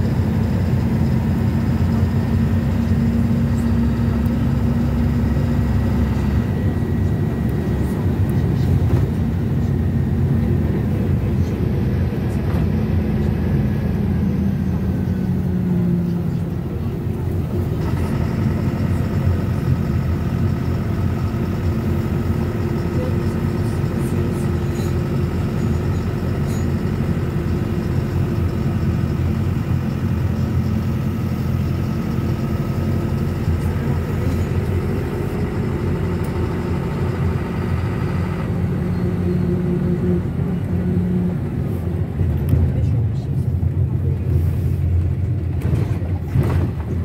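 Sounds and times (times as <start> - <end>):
minibus engine and road drone: 0.0 - 47.0.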